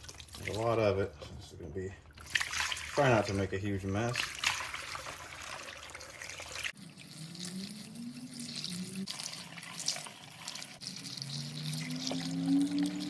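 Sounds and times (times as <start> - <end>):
liquid pouring and trickling: 0.0 - 1.0, 2.0 - 13.0.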